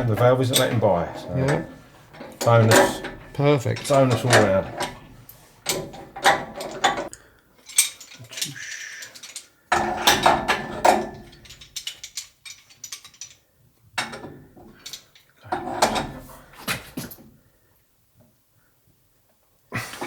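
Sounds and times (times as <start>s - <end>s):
plumbing tools clicking and clanking: 0.0s - 13.4s, 14.0s - 17.3s.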